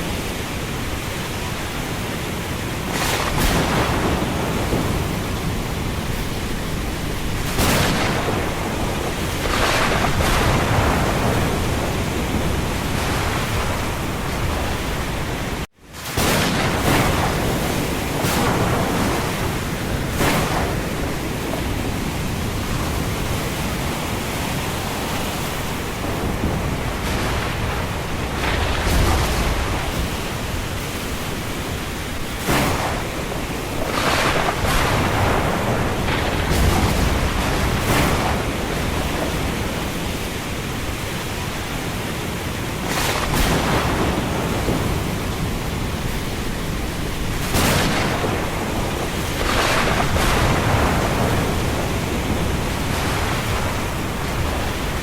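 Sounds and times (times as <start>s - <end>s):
sudden wind surges: 0.0s - 55.0s
wind and rain rushing: 0.0s - 55.0s.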